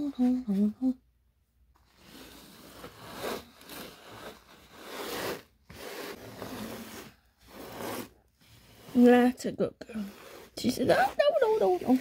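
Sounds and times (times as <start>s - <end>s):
paper towel scraping a tray: 1.8s - 12.0s.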